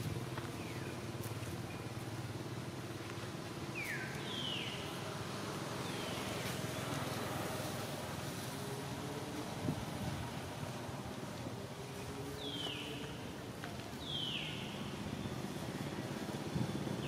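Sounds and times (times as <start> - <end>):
distant vehicle engine hum: 0.0 - 17.0.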